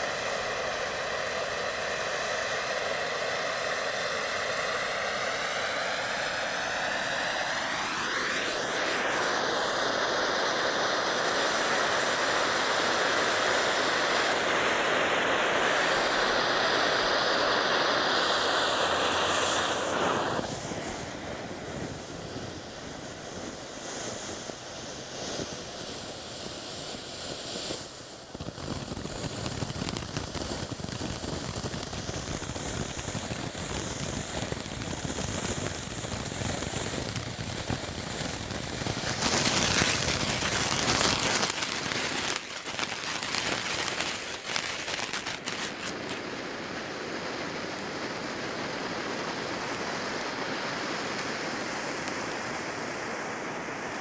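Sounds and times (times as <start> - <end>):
firework crackles: 0.0 - 54.0
firework fountain hissing: 0.0 - 54.0.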